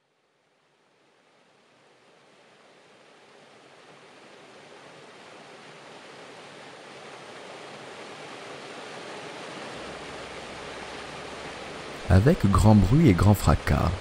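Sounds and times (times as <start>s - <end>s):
stream rushing over boulders: 0.1s - 14.0s.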